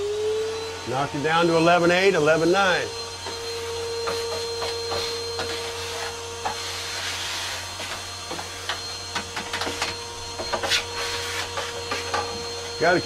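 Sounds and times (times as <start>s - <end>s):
shop vacuum whining: 0.0s - 13.0s.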